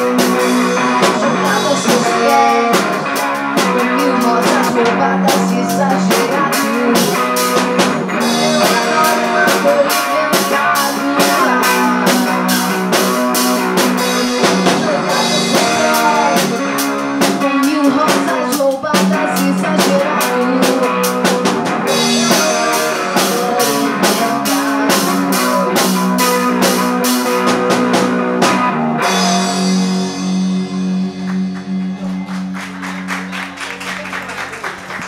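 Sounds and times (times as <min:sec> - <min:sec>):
drum kit: 0:00.0 - 0:35.0
live rock band playing: 0:00.0 - 0:35.0.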